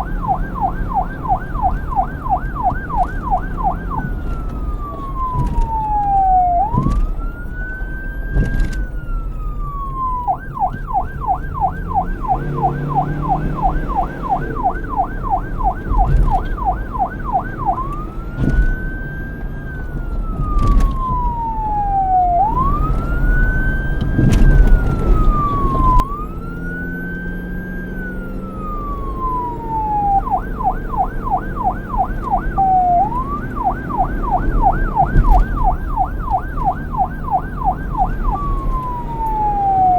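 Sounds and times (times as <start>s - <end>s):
low rumble of traffic: 0.0s - 39.9s
police siren wail and yelp: 0.0s - 39.9s.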